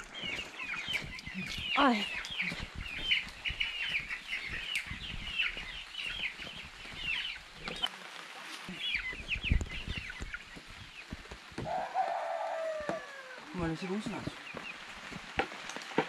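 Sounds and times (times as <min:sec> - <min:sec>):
baby chicks peeping: 0:00.0 - 0:07.9, 0:08.7 - 0:14.8.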